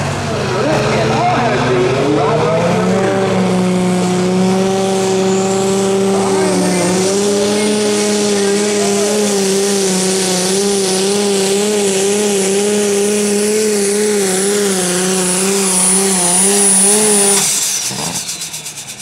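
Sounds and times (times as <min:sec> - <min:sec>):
diesel tractor engine under load: 0:00.0 - 0:19.0
high turbo whine: 0:00.0 - 0:19.0.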